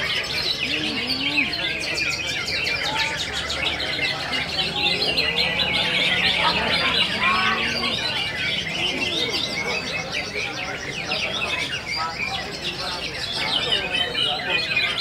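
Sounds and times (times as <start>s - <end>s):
caged birds singing: 0.0s - 15.0s.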